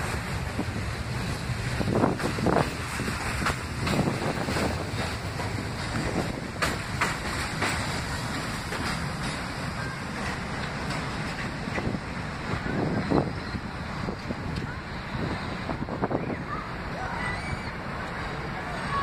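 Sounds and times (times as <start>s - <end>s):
subway train rumbling past: 0.0s - 19.0s
wind buffeting microphone: 0.0s - 19.0s.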